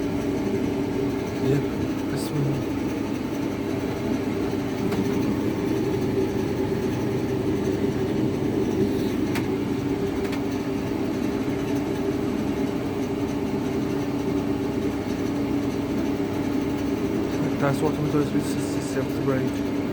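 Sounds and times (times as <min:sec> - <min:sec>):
tumble dryer droning: 0:00.0 - 0:19.9.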